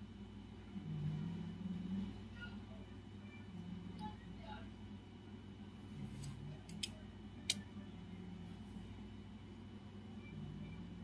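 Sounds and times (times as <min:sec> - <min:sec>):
faint low background hum: 0:00.0 - 0:11.0.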